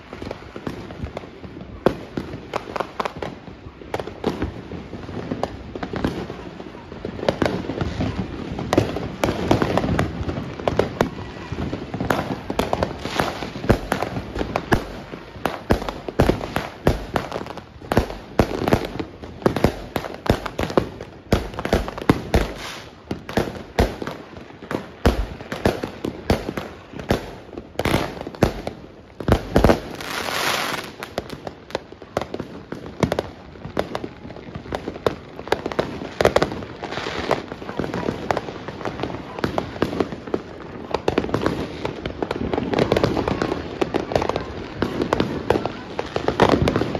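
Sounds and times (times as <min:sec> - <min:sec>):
fireworks and firecrackers banging: 0:00.0 - 0:46.9.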